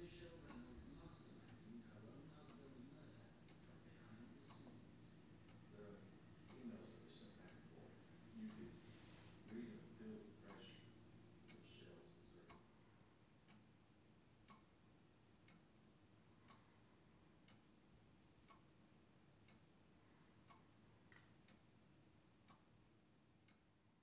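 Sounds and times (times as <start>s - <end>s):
clock ticking faintly: 0.0s - 24.0s.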